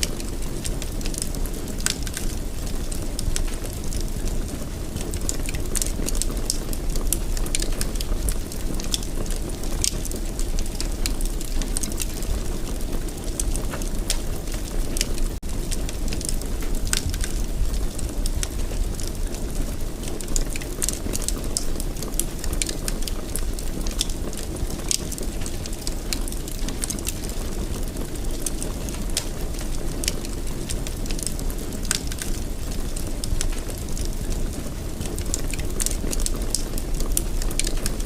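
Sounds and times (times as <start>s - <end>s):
low rumble of flames: 0.0s - 38.0s
wood fire crackling and popping: 0.0s - 38.0s.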